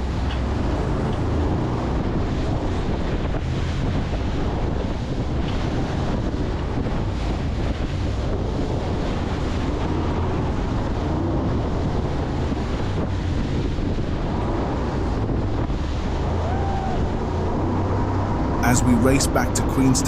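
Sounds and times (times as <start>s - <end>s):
wind buffeting microphone: 0.0s - 19.2s
water rushing past boat: 0.0s - 20.0s.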